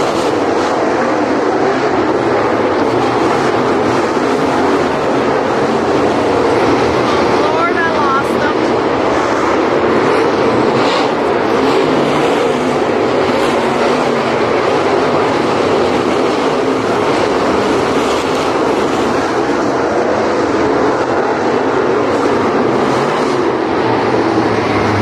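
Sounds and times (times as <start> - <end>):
race car engines roaring: 0.0 - 25.0.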